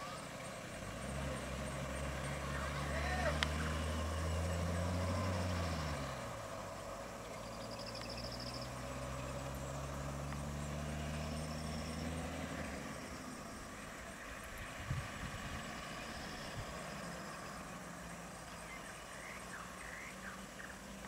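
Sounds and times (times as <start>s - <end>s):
vehicle engines idling: 0.0s - 21.0s.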